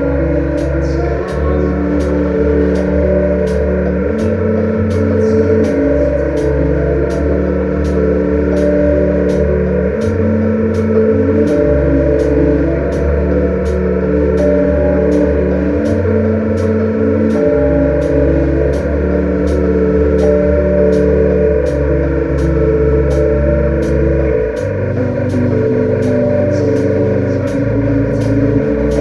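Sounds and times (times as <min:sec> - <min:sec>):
bass and guitar notes: 0:00.0 - 0:29.0
cymbal ticking: 0:00.0 - 0:29.0.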